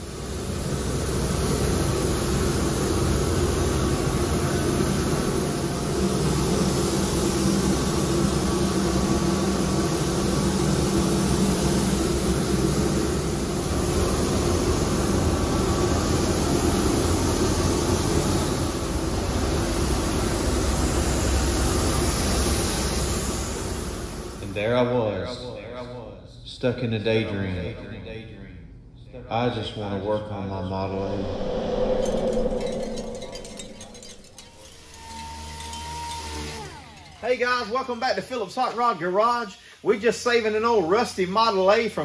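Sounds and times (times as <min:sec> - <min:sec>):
ventilation roar: 0:00.0 - 0:26.8, 0:27.5 - 0:42.0.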